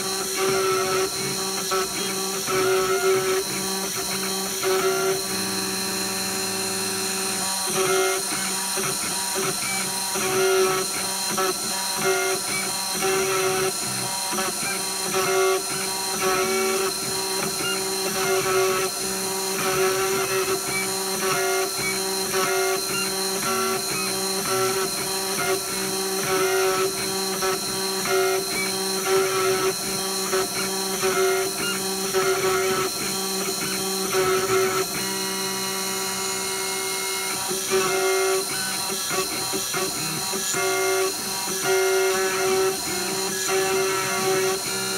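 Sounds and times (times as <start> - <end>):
cutter cutting aluminum: 0.0 - 44.9
engraving machine whine: 0.0 - 44.9.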